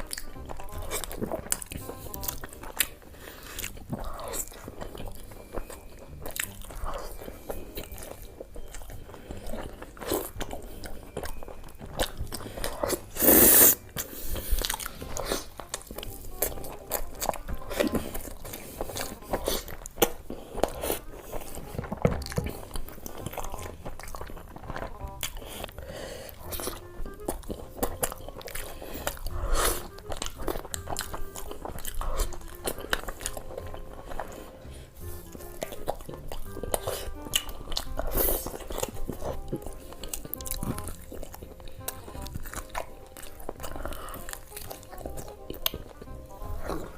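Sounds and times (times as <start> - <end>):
crunchy chewing: 0.0 - 46.9.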